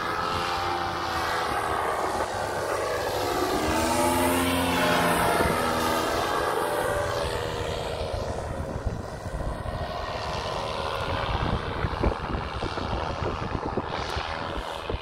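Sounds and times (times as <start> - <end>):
paramotor engine droning: 0.0 - 15.0
wind buffeting microphone: 0.2 - 15.0.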